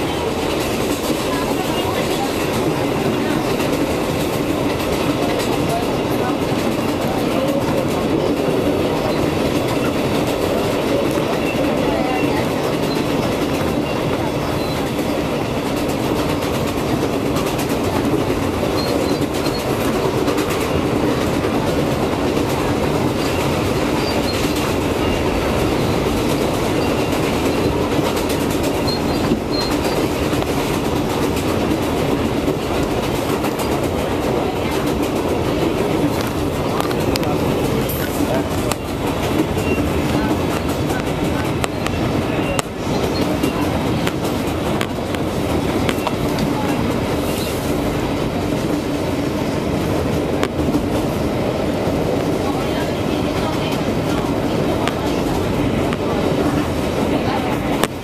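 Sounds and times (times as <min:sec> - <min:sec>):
rail clickety-clack: 0:00.0 - 0:58.0
subway wheel-on-rail noise: 0:00.0 - 0:58.0.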